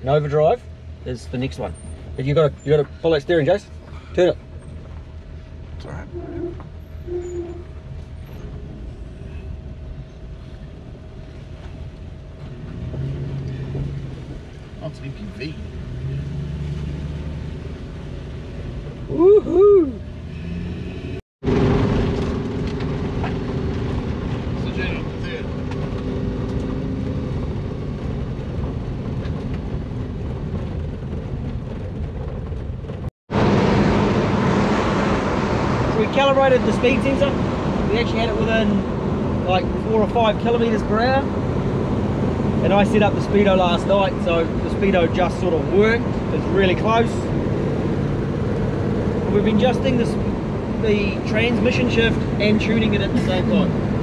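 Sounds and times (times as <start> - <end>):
car engine rumbling: 0.0 - 54.0
road noise: 0.0 - 54.0.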